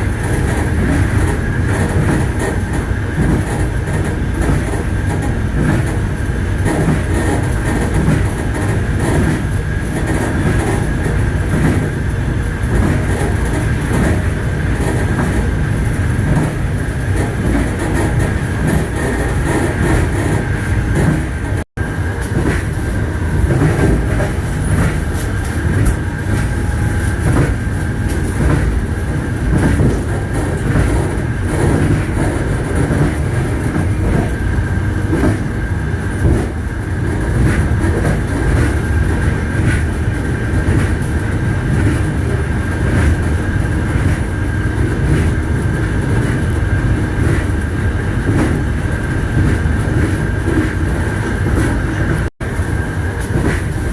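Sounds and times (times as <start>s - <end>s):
heavy train rumble: 0.0s - 53.9s
train wheels clattering on rails: 0.0s - 53.9s.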